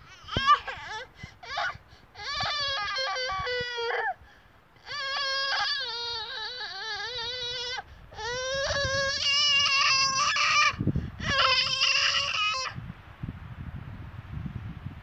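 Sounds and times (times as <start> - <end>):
toddler crying: 0.0 - 4.2, 4.8 - 12.8.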